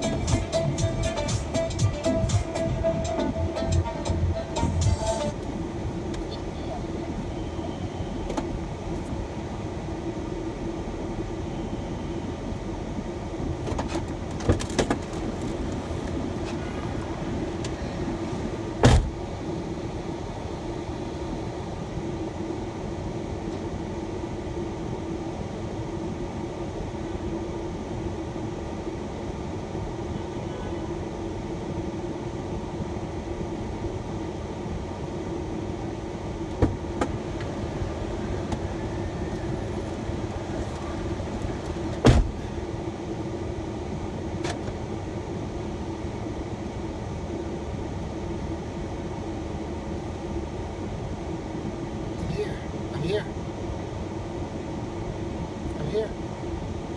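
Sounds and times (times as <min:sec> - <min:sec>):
van engine and road noise: 0:00.0 - 0:56.9.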